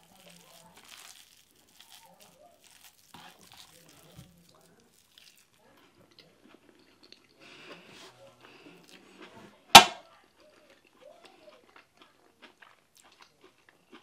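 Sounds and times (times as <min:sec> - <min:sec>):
chewing and mouth clicks: 0:00.0 - 0:09.4, 0:10.1 - 0:14.0.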